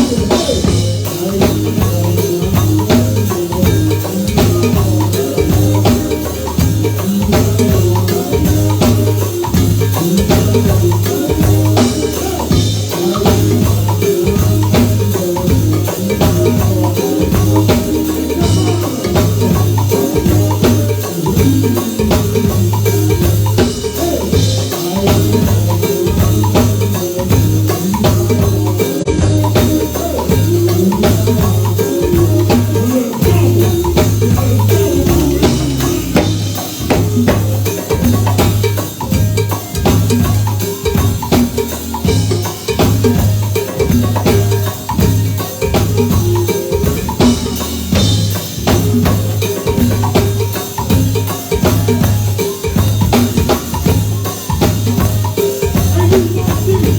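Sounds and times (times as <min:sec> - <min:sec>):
drums: 0:00.0 - 0:56.9
live band music: 0:00.0 - 0:56.9
pulsing bass line: 0:00.0 - 0:56.9.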